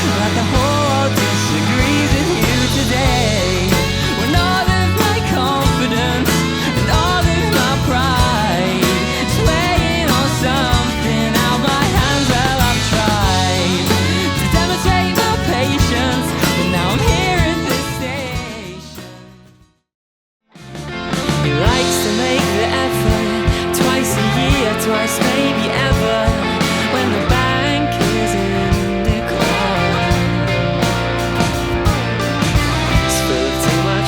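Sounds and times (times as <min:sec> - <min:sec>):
guitar rock music: 0:00.0 - 0:19.7, 0:20.5 - 0:34.0.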